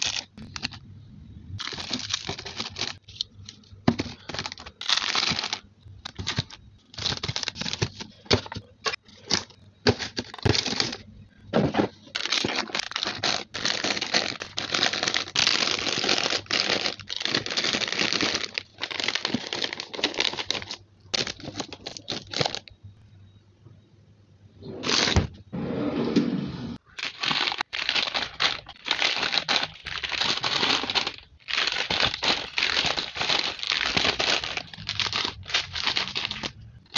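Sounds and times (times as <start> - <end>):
plastic wrappers crinkling: 0.0 - 0.8, 1.6 - 11.2, 11.8 - 22.8, 26.8 - 36.9.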